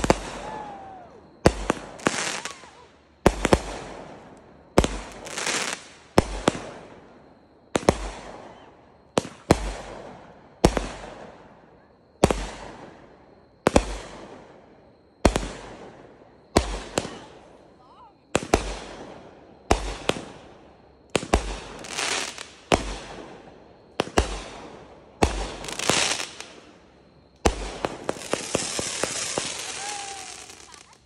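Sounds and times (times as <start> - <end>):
firework bangs: 0.0 - 11.4, 15.2 - 17.6, 18.3 - 26.8, 27.4 - 31.0
firework crackle and hiss: 0.0 - 11.6, 12.2 - 31.0.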